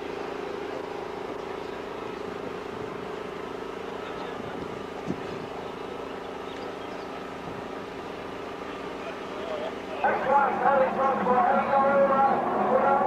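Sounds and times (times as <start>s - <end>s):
distant engine drone: 0.0s - 13.0s
outdoor background noise: 0.0s - 13.0s.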